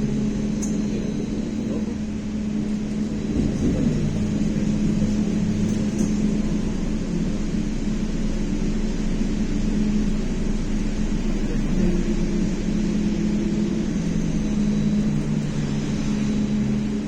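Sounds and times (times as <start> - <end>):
electric drive hum: 0.0 - 17.0.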